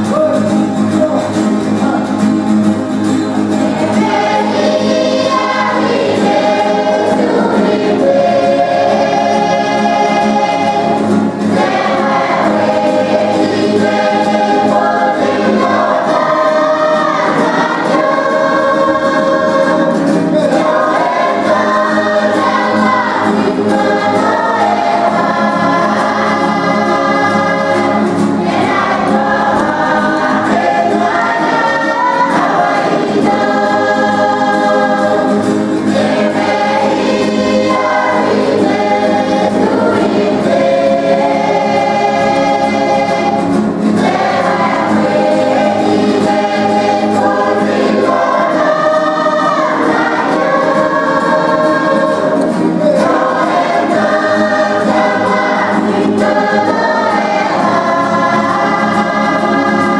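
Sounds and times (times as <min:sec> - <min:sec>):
acoustic guitars: 0:00.0 - 0:59.9
mixed choir singing in harmony: 0:01.6 - 0:59.9.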